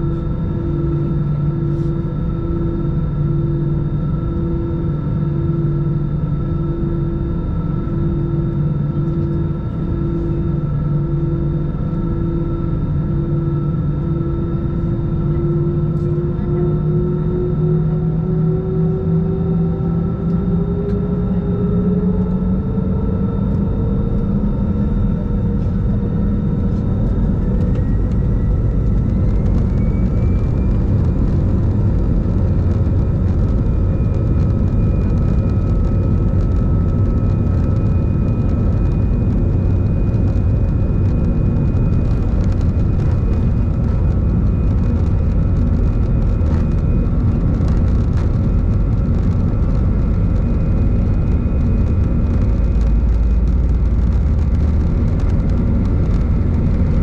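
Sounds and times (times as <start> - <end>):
airliner rolling on runway rumble: 0.0 - 57.0.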